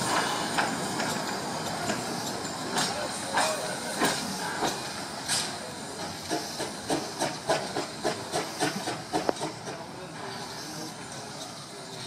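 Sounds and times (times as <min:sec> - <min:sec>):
steam hiss: 0:00.0 - 0:12.0
steam locomotive exhaust chuffs: 0:00.0 - 0:12.0.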